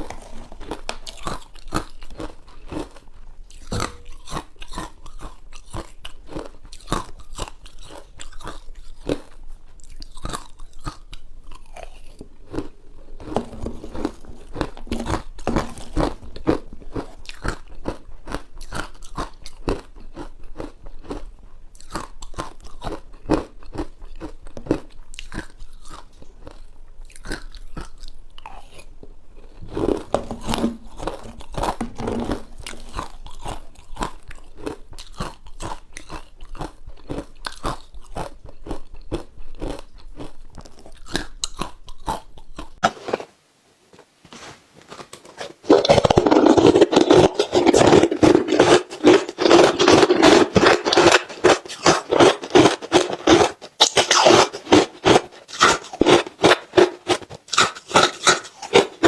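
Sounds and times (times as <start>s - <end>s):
ice crunching while chewed: 0.0s - 43.4s, 44.3s - 59.0s.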